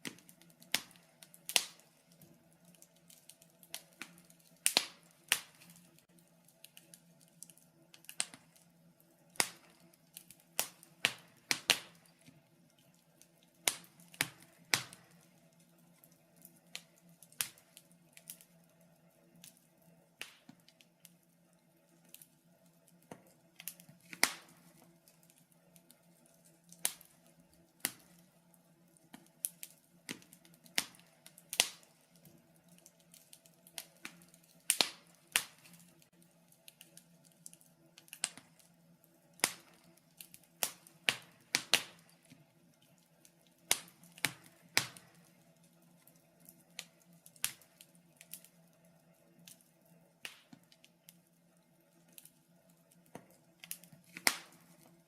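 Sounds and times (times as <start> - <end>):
faint steady hum: 0.0 - 55.0
wood fire crackling and popping: 0.0 - 55.0.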